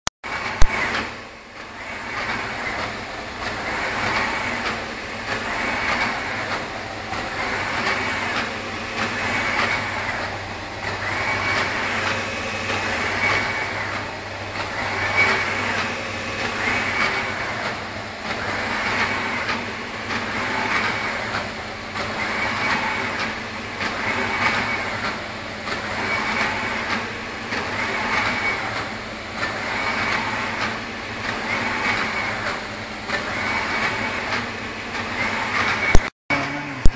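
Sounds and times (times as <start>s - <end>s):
steady low hum: 0.3s - 30.3s
printer carriage whirring pass: 0.3s - 36.9s.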